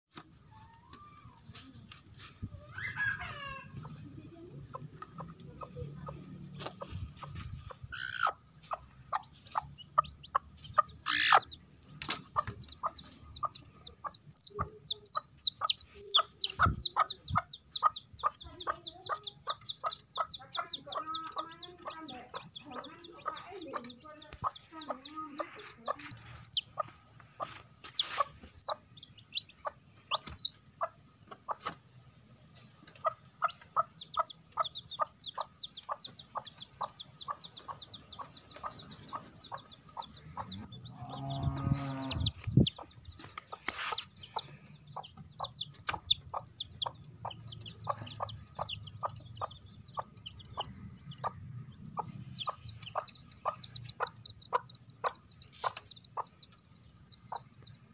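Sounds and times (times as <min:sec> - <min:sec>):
chicks peeping: 0:00.2 - 0:57.9
high-pitched hum: 0:00.3 - 0:54.4
hen clucking softly: 0:04.8 - 0:31.8, 0:32.8 - 0:51.4, 0:52.0 - 0:56.6.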